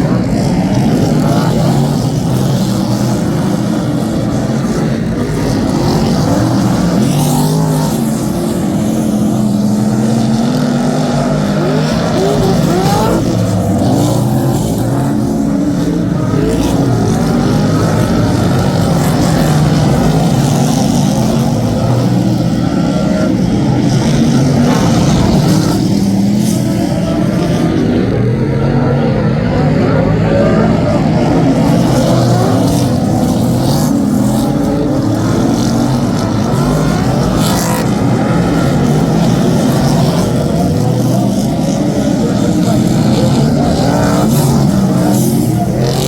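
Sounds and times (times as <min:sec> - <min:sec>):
race car engines running: 0:00.0 - 0:46.0.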